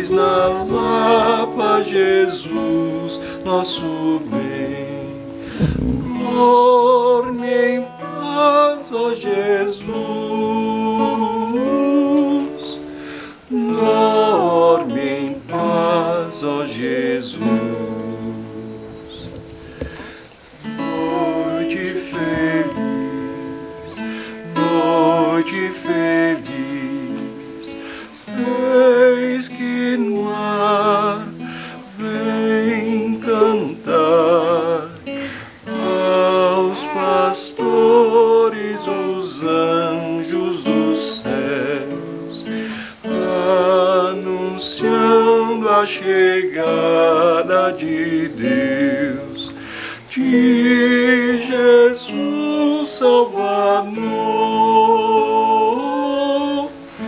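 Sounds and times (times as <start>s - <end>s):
acoustic guitar tune: 0.0s - 57.0s
wordless voice singing: 0.0s - 57.0s.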